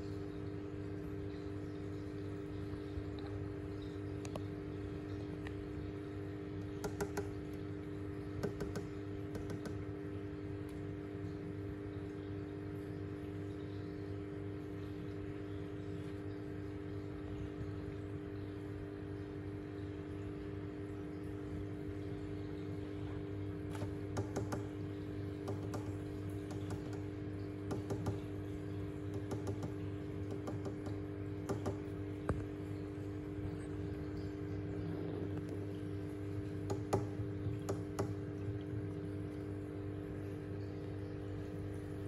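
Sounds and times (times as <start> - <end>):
aquarium filter pump humming: 0.0 - 42.0.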